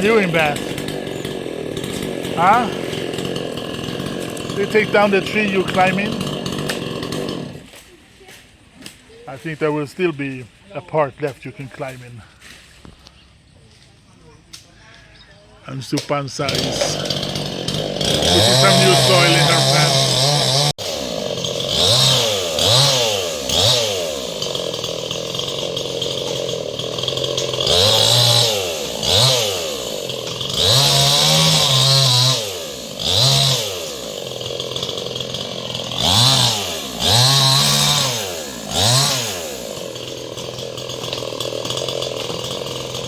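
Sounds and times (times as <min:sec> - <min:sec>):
chainsaw idling and revving: 0:00.0 - 0:07.8, 0:16.4 - 0:43.0.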